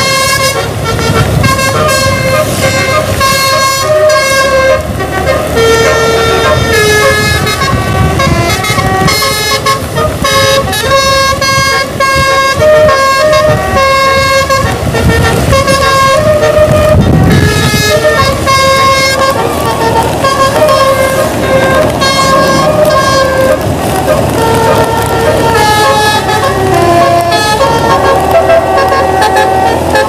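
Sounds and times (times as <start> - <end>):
low rumble of bus: 0.0 - 30.0
musical bus air horn: 0.0 - 30.0.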